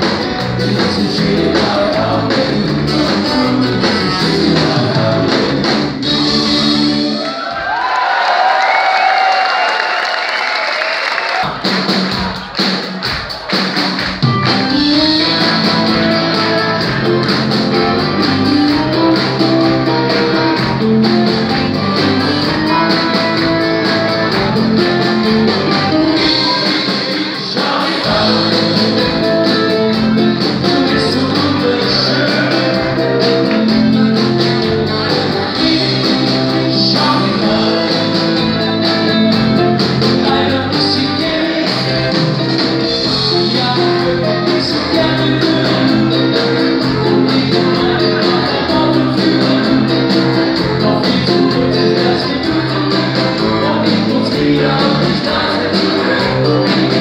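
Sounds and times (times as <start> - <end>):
keyboard: 0.0 - 7.3, 11.4 - 57.0
person singing: 0.0 - 7.3, 14.5 - 57.0
electric guitars: 0.0 - 7.5, 13.5 - 57.0
drum kit: 0.0 - 7.8, 11.2 - 57.0.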